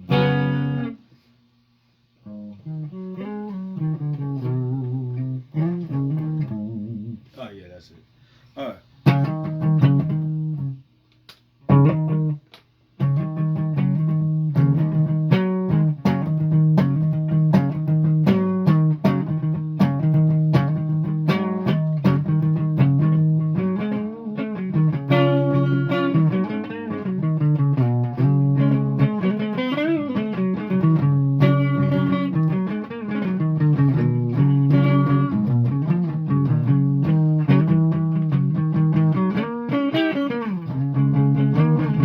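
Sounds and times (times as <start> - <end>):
guitar picking single notes: 0.0 - 1.0, 2.2 - 7.2, 9.0 - 10.8, 11.7 - 12.4, 13.0 - 42.0.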